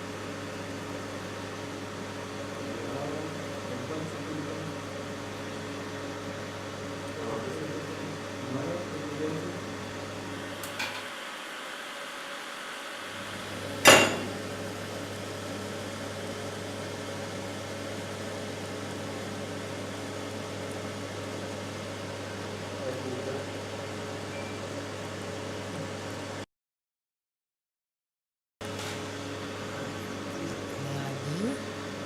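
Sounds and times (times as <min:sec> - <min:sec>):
cotton candy machine humming: 0:00.0 - 0:26.4, 0:28.6 - 0:32.0.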